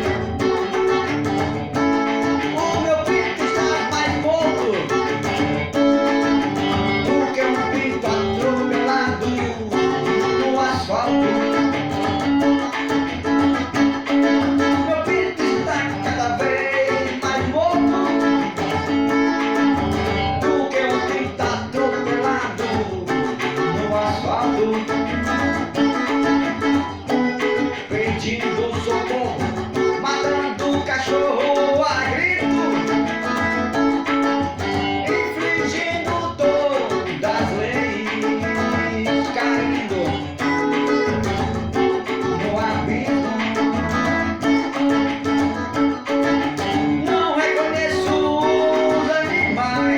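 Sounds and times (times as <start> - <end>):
guitar-led song: 0.0 - 49.9.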